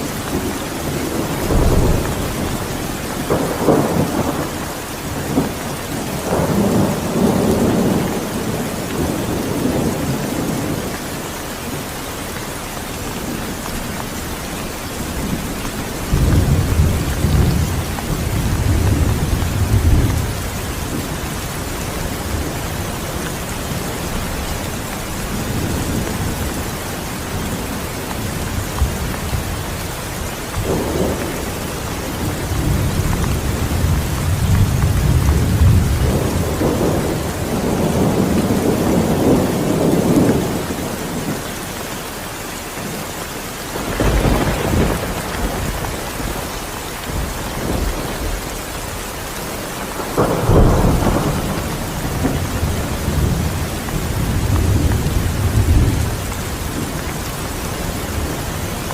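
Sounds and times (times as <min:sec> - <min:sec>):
distant thunder rolling: 0:00.0 - 0:11.9, 0:12.9 - 0:41.4, 0:43.7 - 0:58.9
heavy rain: 0:00.0 - 0:58.9.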